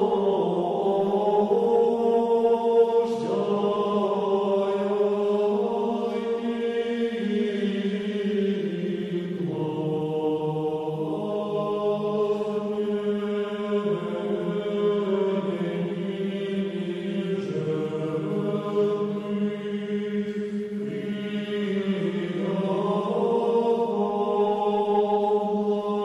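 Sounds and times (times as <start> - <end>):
choir chanting: 0.0 - 26.0.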